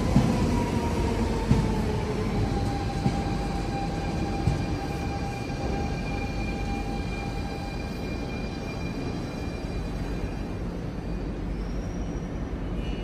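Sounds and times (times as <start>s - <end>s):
electric train whine: 0.0s - 13.0s
low train rumble: 0.0s - 13.0s.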